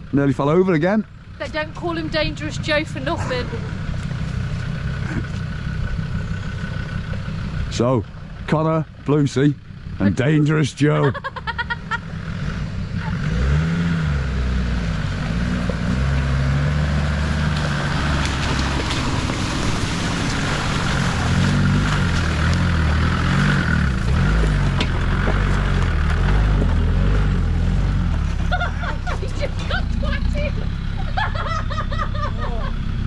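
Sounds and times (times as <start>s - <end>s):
off-road vehicle engine under load: 0.0s - 33.0s.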